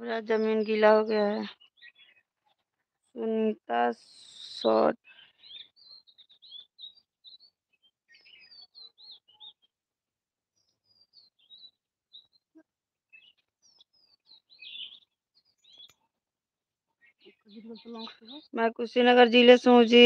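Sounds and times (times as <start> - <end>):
small birds chirping: 0.0 - 9.8, 10.5 - 16.2, 16.9 - 20.0.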